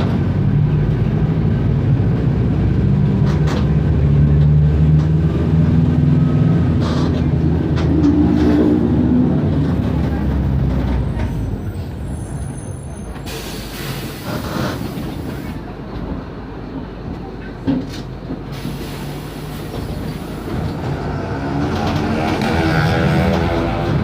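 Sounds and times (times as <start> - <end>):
bus diesel engine: 0.0 - 24.0.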